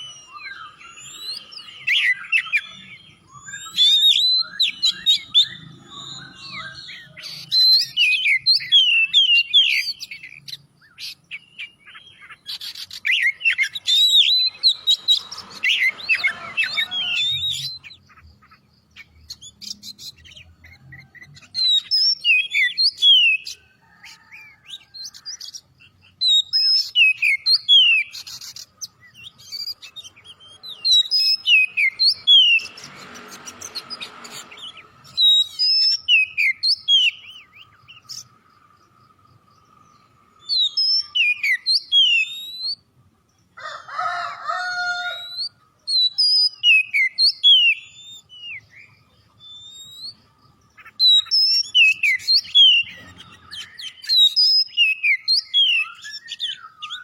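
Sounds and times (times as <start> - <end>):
magpie-robin whistled song: 0.0 - 38.4, 39.6 - 43.0, 45.1 - 57.0.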